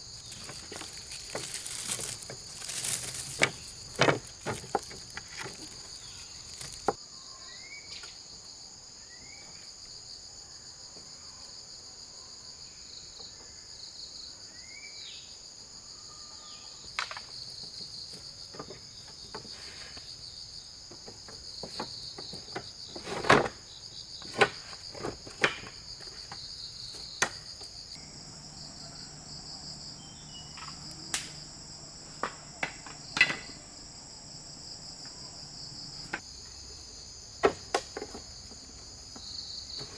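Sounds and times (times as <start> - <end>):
insects buzzing in chorus: 0.0 - 39.9.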